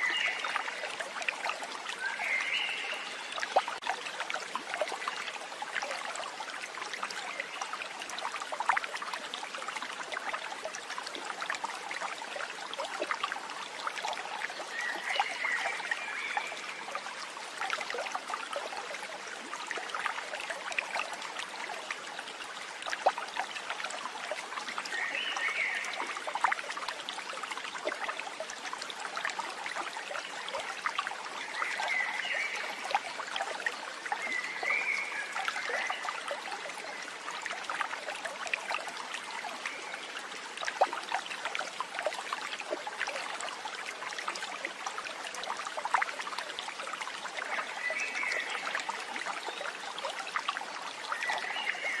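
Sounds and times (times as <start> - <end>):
stream water trickling: 0.0 - 52.0.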